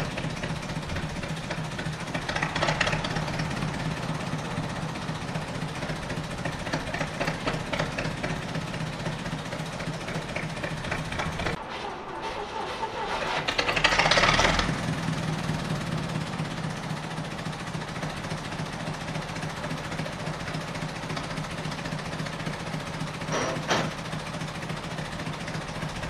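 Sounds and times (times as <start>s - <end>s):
engine idling hum: 0.0s - 26.0s.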